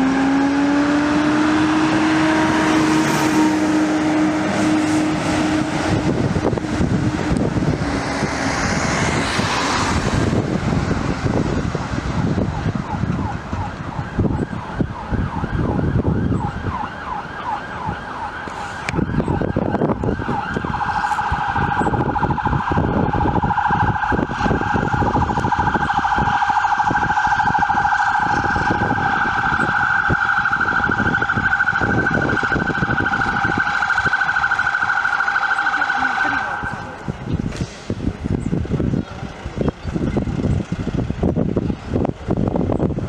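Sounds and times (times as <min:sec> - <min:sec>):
fire engine siren: 0:00.0 - 0:39.0
road noise: 0:00.0 - 0:43.0
vehicle engines rumbling: 0:00.0 - 0:43.0.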